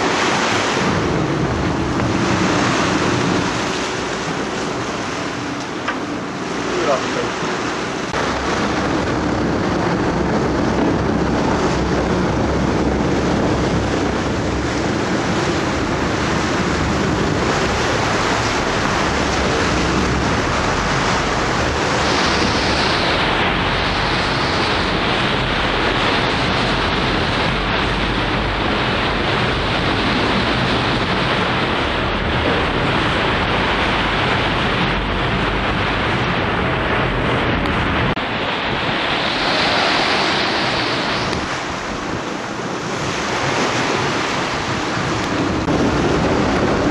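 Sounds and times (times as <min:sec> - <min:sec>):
low rumble: 0:00.0 - 0:46.9
sea water: 0:00.0 - 0:46.9
wind on microphone: 0:00.0 - 0:46.9.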